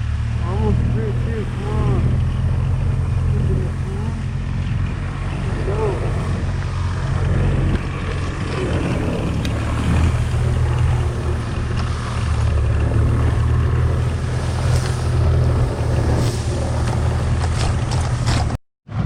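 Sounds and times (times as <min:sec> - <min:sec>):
golf cart engine hum: 0:00.0 - 0:19.0
wind buffeting microphone: 0:02.0 - 0:18.6.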